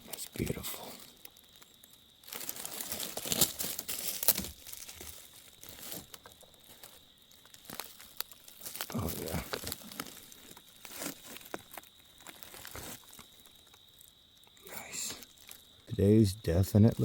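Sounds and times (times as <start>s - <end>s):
dry leaves rustling and crackling: 0.2s - 14.1s, 15.2s - 15.7s.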